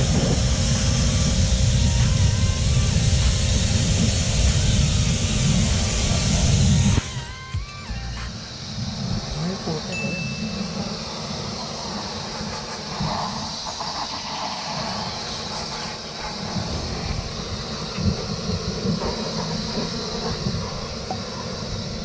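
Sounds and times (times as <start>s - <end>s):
hose water spraying on car: 0.0s - 7.3s, 8.4s - 22.0s.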